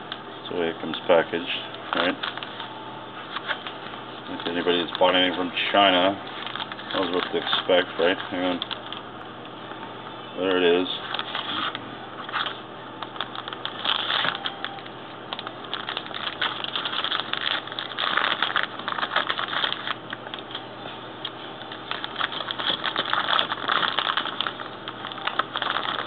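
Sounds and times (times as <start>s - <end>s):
plastic bag crinkling: 0.5s - 9.1s, 10.8s - 26.0s.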